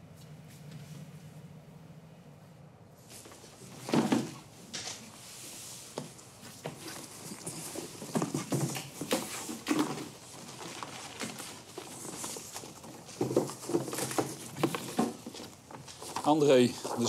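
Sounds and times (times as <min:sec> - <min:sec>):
paper rustling: 0:03.0 - 0:17.0.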